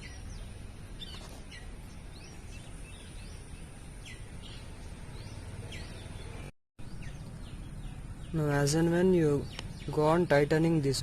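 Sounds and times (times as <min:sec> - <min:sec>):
low outdoor background rumble: 0:00.0 - 0:11.0
small birds chirping: 0:00.0 - 0:11.0.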